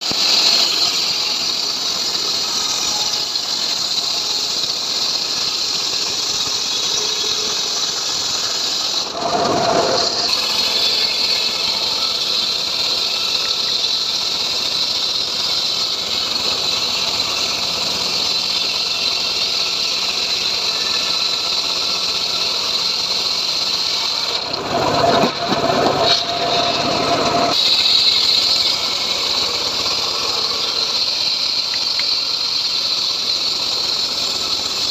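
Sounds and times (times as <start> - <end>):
saw blade whining through wood: 0.0 - 34.9
sawmill motor running: 0.0 - 34.9.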